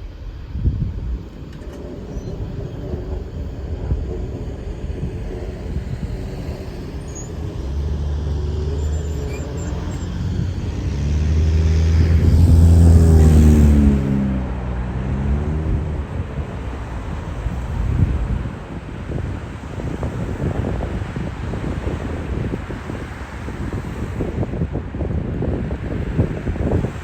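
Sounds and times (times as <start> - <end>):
continuous rumbling: 0.0 - 27.0
heavy engine passing by: 0.1 - 24.5.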